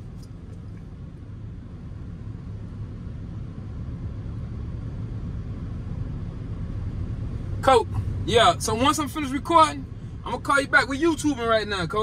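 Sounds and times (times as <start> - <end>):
engine and road noise in cabin: 0.0 - 12.0.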